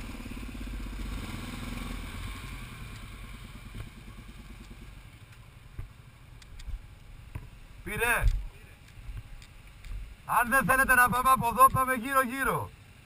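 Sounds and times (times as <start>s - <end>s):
atv engine throbbing at low revs: 0.0s - 13.0s.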